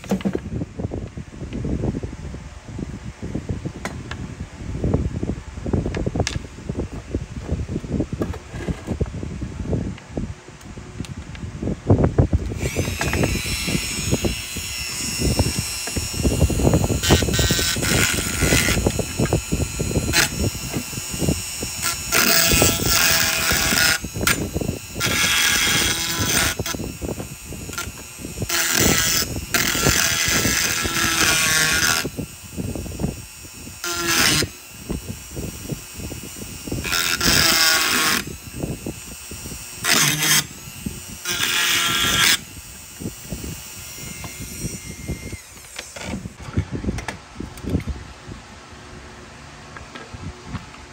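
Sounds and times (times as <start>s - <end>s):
power tool whining: 0.0s - 2.1s, 3.7s - 48.2s.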